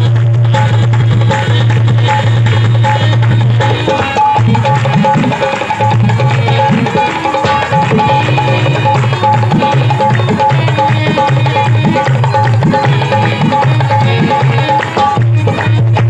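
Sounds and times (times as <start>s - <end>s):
hand drum rhythm: 0.0s - 16.0s
harmonium held notes: 0.0s - 16.0s.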